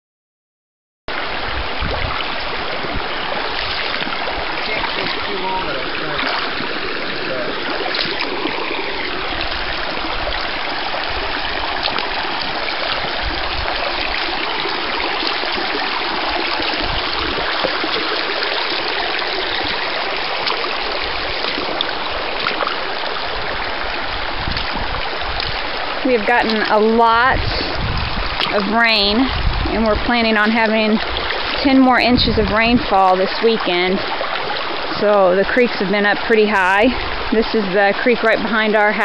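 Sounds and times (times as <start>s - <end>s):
creek water rushing: 1.1s - 39.0s.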